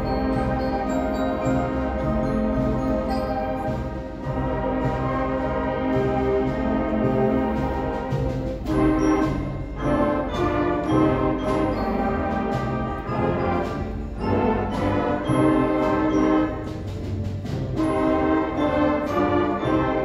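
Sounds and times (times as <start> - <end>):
concert band playing: 0.0 - 20.0
percussion hits: 0.0 - 20.0.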